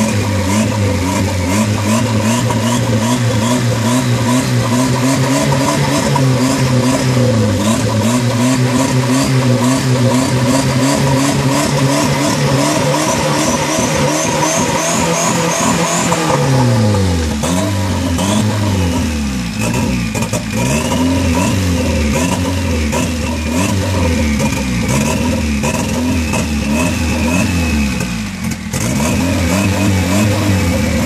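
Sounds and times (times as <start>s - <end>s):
car engine idling unevenly: 0.0s - 29.0s.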